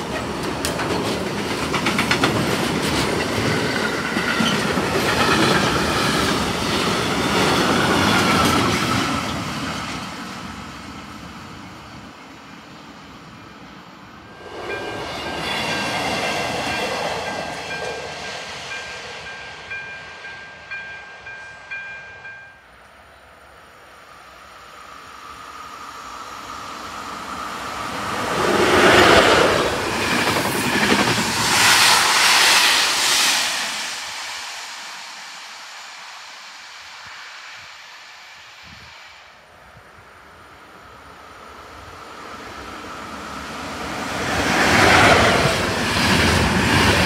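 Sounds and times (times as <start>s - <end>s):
freight train rumbling past: 0.0s - 47.0s
passenger train passing at speed: 0.0s - 47.0s.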